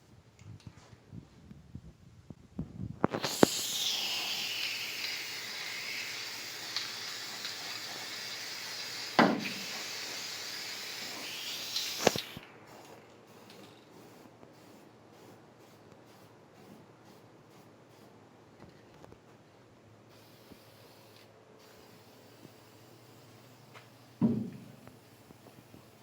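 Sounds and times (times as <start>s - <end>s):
paint spray hissing: 3.1s - 18.2s, 20.1s - 26.0s.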